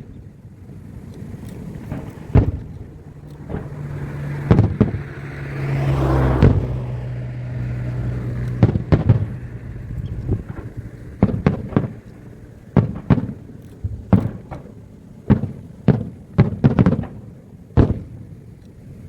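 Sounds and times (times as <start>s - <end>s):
steady low hum: 0.0s - 19.0s
fireworks shells bursting: 1.0s - 5.7s, 7.6s - 18.3s.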